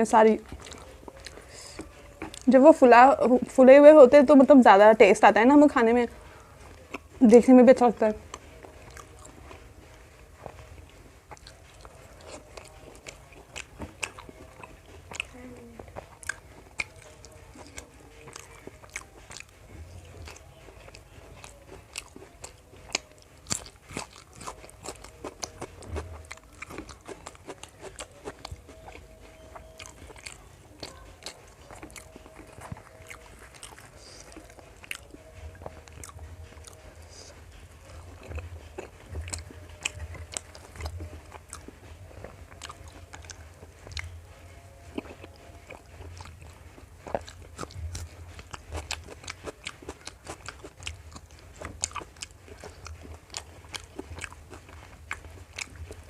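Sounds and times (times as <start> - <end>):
person eating crunchy food: 0.4 - 2.5, 8.2 - 56.0.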